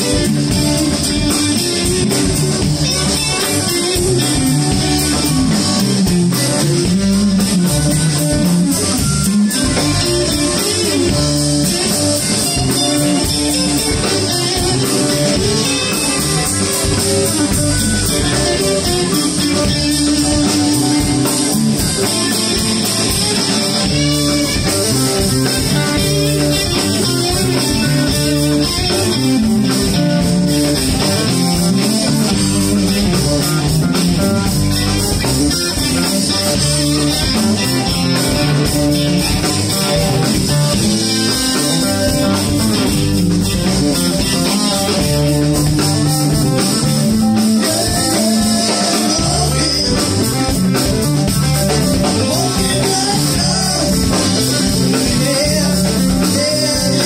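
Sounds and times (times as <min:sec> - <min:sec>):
live blues band playing: 0:00.0 - 0:57.0.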